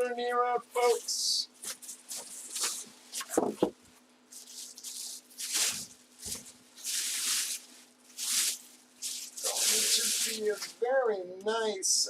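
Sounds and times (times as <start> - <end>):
packaging rustling: 0.9 - 10.8.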